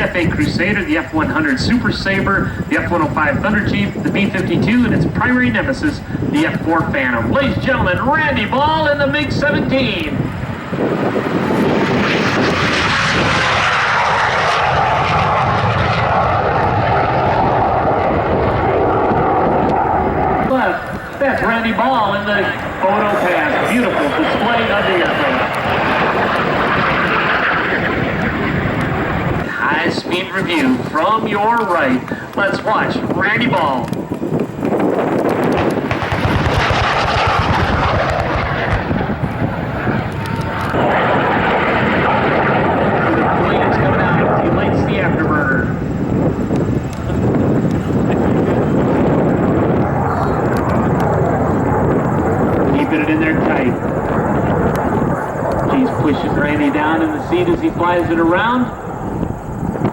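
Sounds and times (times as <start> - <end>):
jet engine roaring with whine: 0.0 - 59.9.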